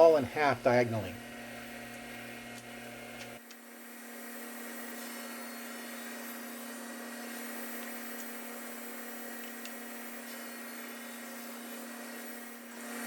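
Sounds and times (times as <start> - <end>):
power saw cutting plywood: 0.0 - 3.4, 4.1 - 13.0.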